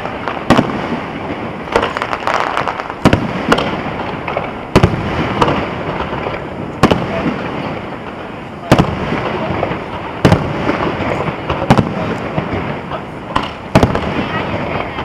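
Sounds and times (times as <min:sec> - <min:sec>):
fireworks bangs: 0:00.0 - 0:15.0
fireworks crackling and rumbling: 0:00.0 - 0:15.0.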